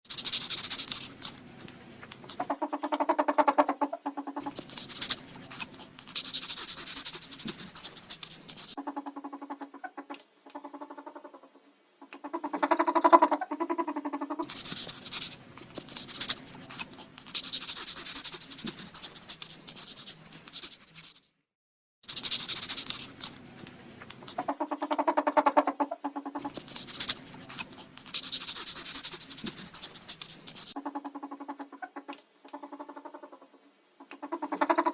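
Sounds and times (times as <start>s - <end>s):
ferret hissing: 0.0s - 11.4s, 12.1s - 21.3s, 22.0s - 31.7s, 34.1s - 34.9s
ferret clucking: 0.1s - 21.1s, 22.1s - 34.9s.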